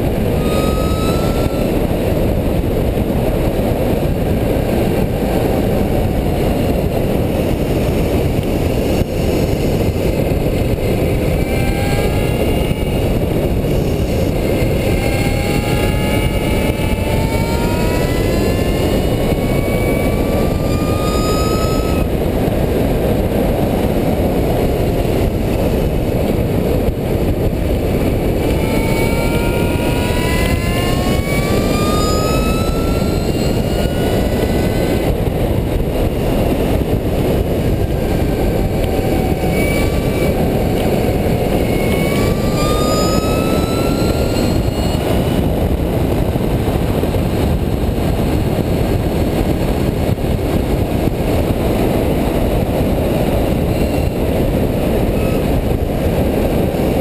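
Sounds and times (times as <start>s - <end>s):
electric bicycle motor whining: 0.0s - 57.0s
wind rushing over microphone: 0.0s - 57.0s.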